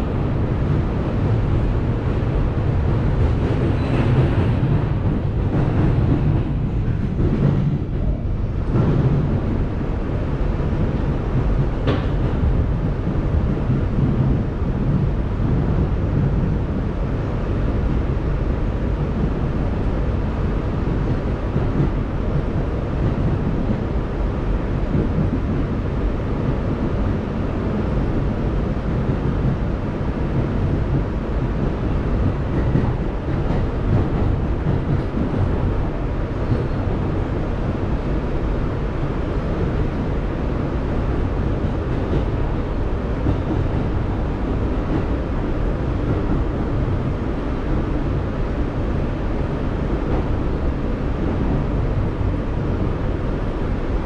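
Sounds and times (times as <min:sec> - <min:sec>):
subway car wheels rumbling on rail: 0:00.0 - 0:54.0.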